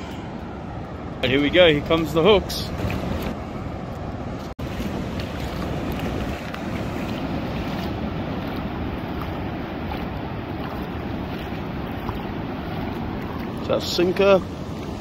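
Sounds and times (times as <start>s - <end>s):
surf washing: 0.0s - 15.0s
wind buffeting microphone: 0.0s - 15.0s.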